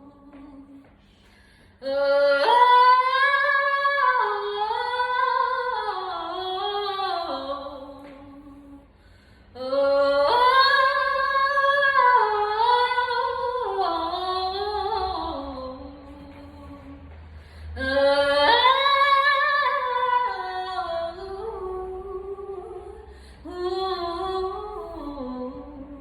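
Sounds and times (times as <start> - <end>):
woman singing wordless vocals: 0.0 - 1.1, 1.8 - 26.0.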